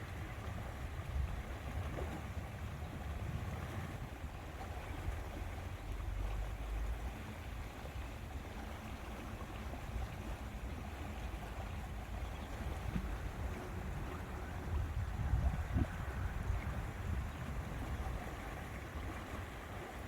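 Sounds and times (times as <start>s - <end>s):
water lapping: 0.0s - 20.0s
wind rumble on microphone: 0.0s - 20.0s.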